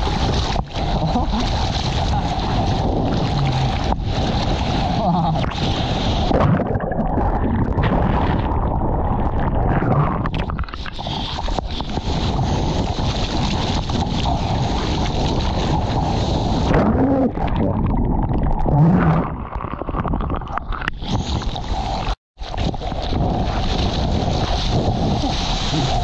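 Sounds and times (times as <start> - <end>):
water rushing and splashing: 0.0 - 26.0.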